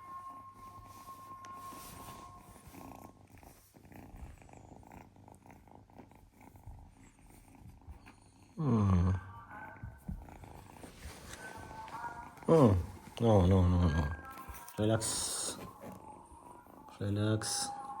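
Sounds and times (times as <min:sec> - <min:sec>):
kitten purring: 0:02.0 - 0:18.0.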